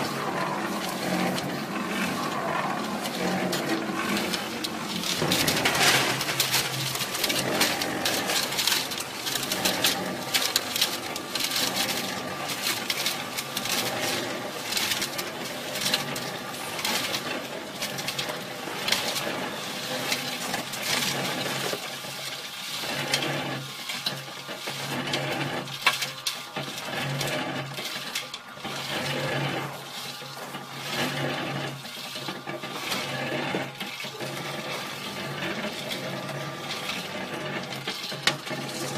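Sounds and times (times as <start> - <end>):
concrete mixer motor hum: 0.0 - 38.9
wet concrete pouring: 0.0 - 38.9.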